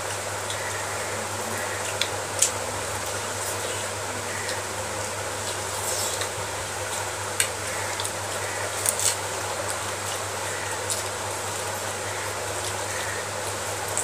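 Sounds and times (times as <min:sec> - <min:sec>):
steady hiss with low hum: 0:00.0 - 0:14.0
chewing: 0:01.6 - 0:14.0.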